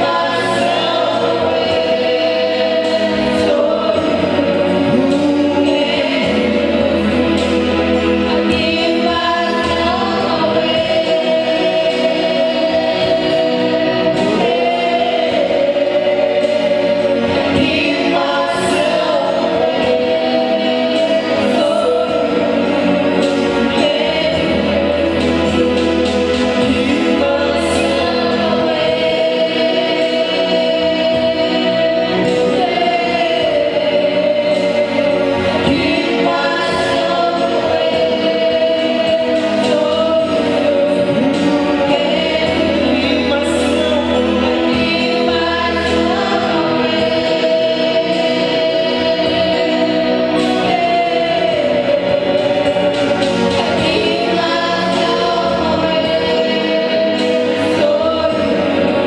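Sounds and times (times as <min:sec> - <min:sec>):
gospel choir singing: 0:00.0 - 0:59.0
instrumental backing: 0:00.0 - 0:59.0.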